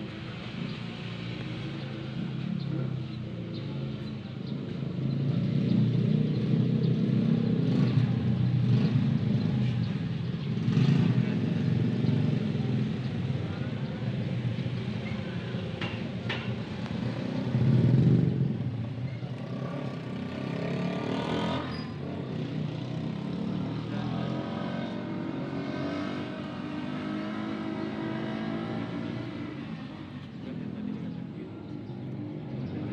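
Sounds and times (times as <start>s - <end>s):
vehicle engines running: 0.0s - 32.9s.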